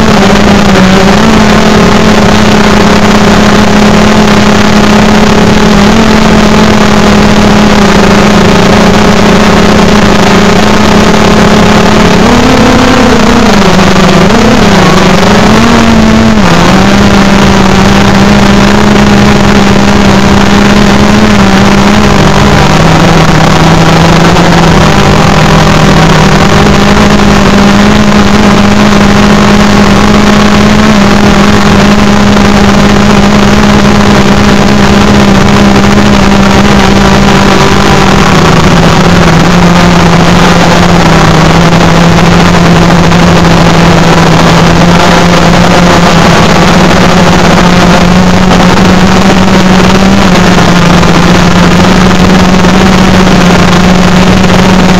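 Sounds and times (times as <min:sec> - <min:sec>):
drone motors buzzing: 0:00.0 - 0:54.9
rushing noise: 0:00.0 - 0:54.9.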